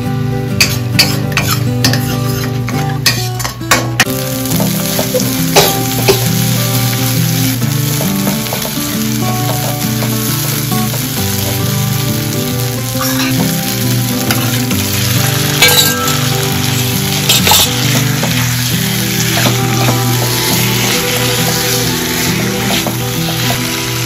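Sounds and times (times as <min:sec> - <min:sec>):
background music: 0:00.0 - 0:24.0
chicken sizzling in hot paste: 0:04.1 - 0:24.0
paste sizzling in a wok: 0:04.1 - 0:24.0.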